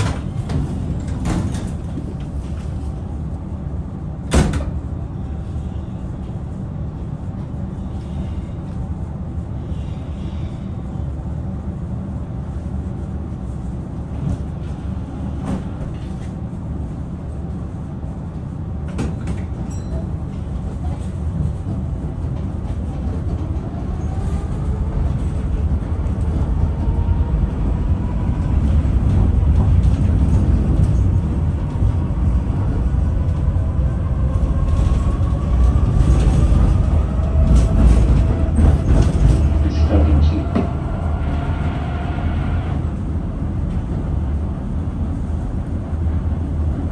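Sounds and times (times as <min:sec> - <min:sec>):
tram rumbling on rails: 0:00.0 - 0:46.9.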